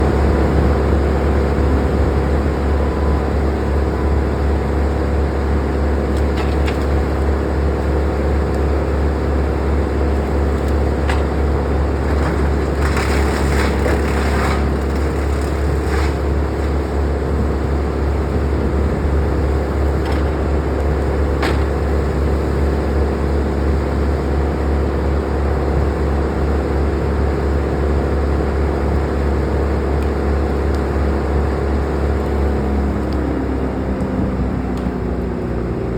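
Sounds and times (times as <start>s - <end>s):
crane engine running: 0.0s - 35.9s.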